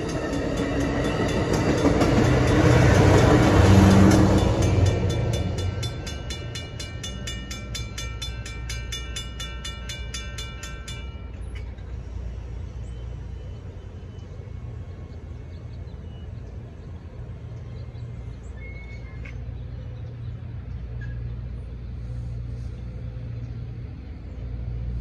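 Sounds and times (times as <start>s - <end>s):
road vehicle engines rumbling: 0.0s - 25.0s.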